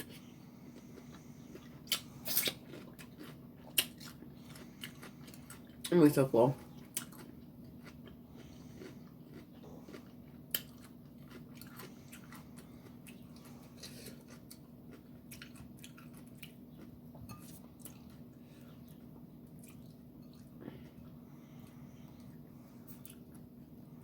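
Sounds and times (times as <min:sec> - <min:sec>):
person chewing food: 0:00.0 - 0:05.9, 0:06.6 - 0:24.0.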